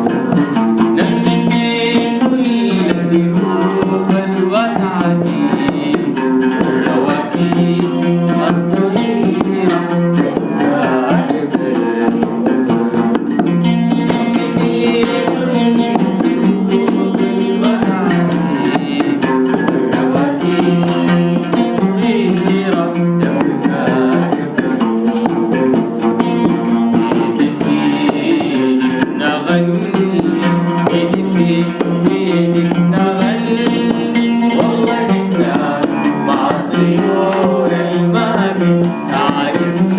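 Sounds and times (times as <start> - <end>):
hand percussion: 0.0 - 39.9
plucked string instrument: 0.0 - 39.9.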